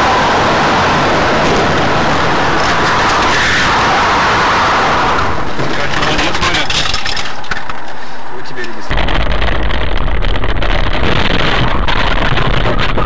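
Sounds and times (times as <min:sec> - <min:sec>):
car engine and road noise rumble: 0:00.0 - 0:13.0.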